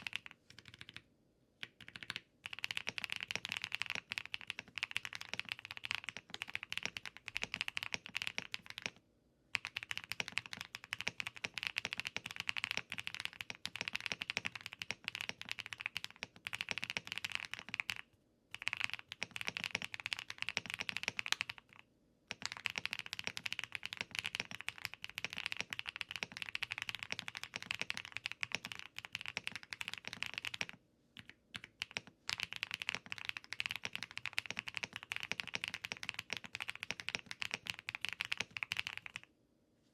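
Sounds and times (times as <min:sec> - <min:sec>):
mechanical keyboard typing: 0:00.0 - 0:01.0, 0:01.6 - 0:09.0, 0:09.6 - 0:39.3.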